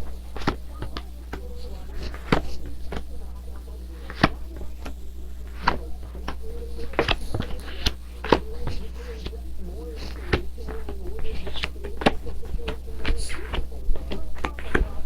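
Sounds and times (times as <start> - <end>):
cards clicking on a table: 0.0 - 15.0
steady low hum: 0.0 - 15.0.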